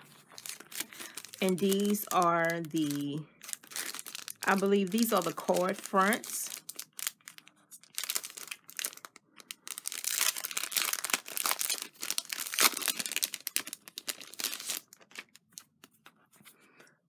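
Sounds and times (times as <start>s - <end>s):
cellophane crinkling and tearing: 0.0s - 16.0s.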